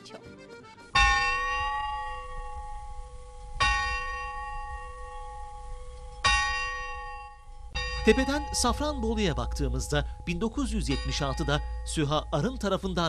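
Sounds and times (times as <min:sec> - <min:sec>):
large tower bell ringing: 0:01.0 - 0:13.0.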